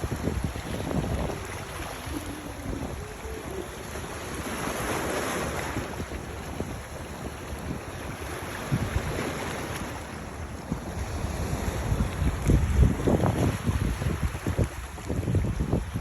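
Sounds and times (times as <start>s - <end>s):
waves washing: 0.0s - 16.0s
wind buffeting microphone: 0.0s - 16.0s.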